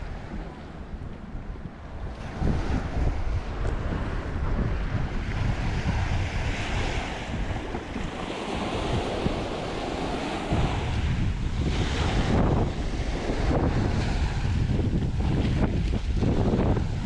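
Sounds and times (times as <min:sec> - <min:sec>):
sea waves washing: 0:00.0 - 0:17.0
wind buffeting microphone: 0:00.0 - 0:17.0.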